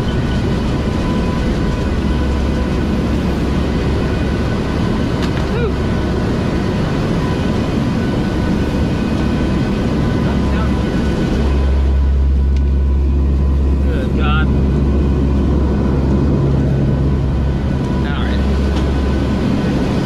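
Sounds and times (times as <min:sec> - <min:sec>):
aircraft propeller engines droning: 0:00.0 - 0:20.0
faint steady whines: 0:00.0 - 0:20.0.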